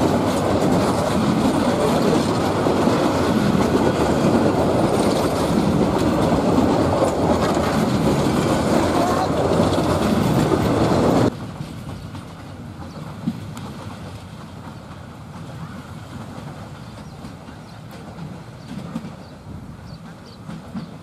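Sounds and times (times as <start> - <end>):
faint train rumble: 0.0 - 21.0
train wheels clattering on rails: 0.0 - 21.0.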